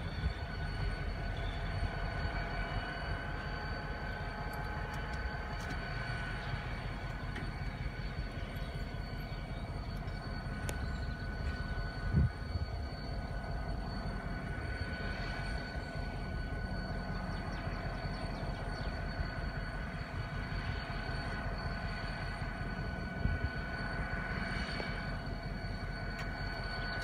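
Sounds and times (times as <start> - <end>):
distant diesel locomotive rumble: 0.0 - 27.0
high whine: 0.0 - 27.0.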